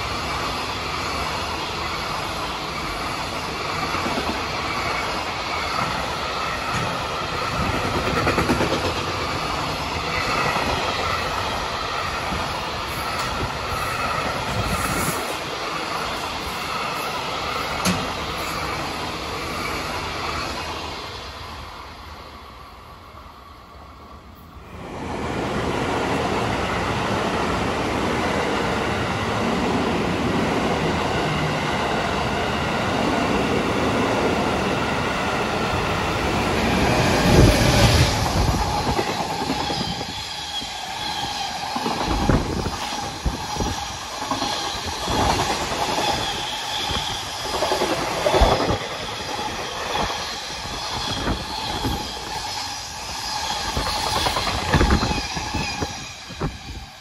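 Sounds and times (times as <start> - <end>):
passing train rumble: 0.0 - 57.0.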